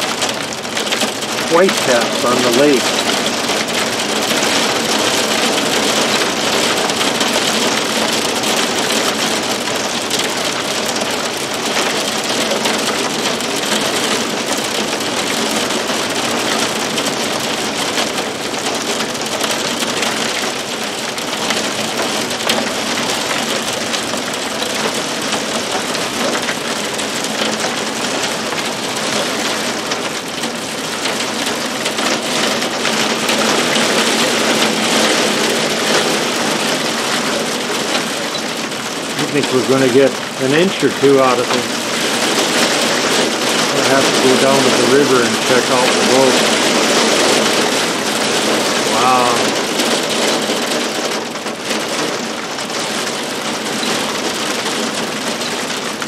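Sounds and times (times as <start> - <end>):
heavy rain against window: 0.0 - 56.0.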